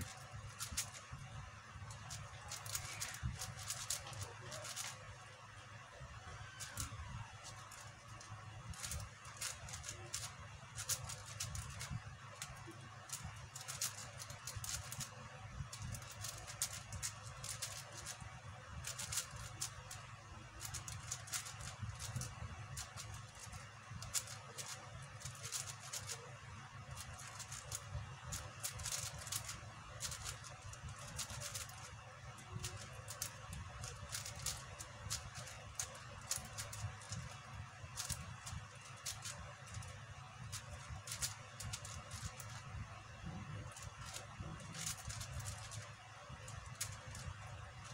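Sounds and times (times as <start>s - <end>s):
puzzle cube plastic clicks: 0.0s - 5.1s, 6.3s - 47.9s.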